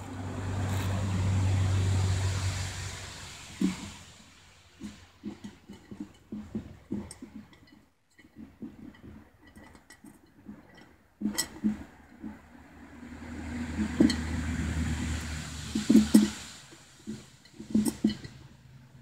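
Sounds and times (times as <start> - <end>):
rough scraping noise: 0.0 - 7.6, 8.4 - 19.0.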